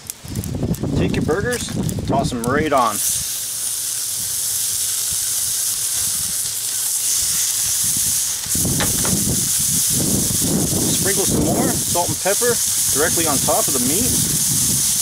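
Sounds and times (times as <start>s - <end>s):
burger patties sizzling: 0.0s - 15.0s.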